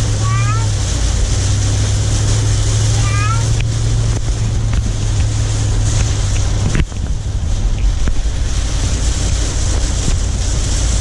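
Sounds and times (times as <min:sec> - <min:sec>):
vehicle engine and road rumble: 0:00.0 - 0:11.0
wind noise on microphone: 0:00.0 - 0:11.0.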